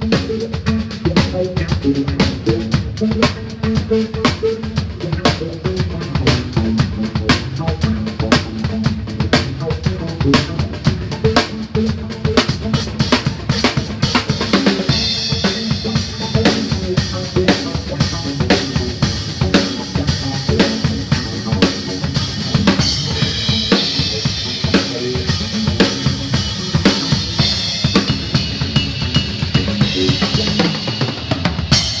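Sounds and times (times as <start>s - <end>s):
band instruments: 0.0s - 32.0s
drum kit beat: 0.0s - 32.0s.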